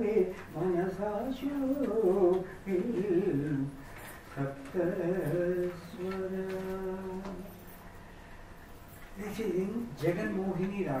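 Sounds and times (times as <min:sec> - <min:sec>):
man singing: 0:00.0 - 0:07.7, 0:09.2 - 0:11.0.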